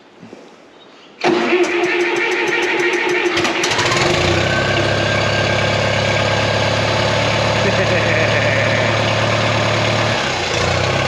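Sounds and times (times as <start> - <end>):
starter motor cranking engine: 1.2 - 11.0
tractor engine idling: 1.2 - 11.0.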